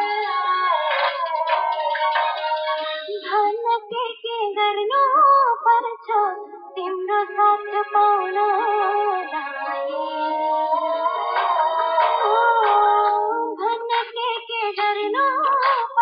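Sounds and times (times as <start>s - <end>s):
high-pitched voice singing: 0.0s - 4.5s, 5.1s - 16.0s.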